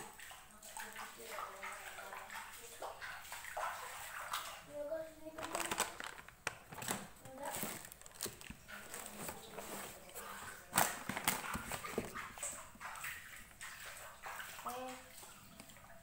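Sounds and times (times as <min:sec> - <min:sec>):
bare feet splashing in water: 0:00.0 - 0:16.0.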